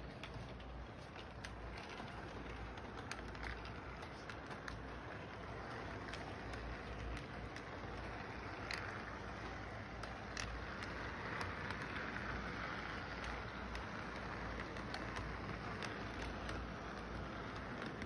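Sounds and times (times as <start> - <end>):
toy train rolling rumble: 0.0 - 18.0
wheels clicking over track joints: 0.0 - 18.0.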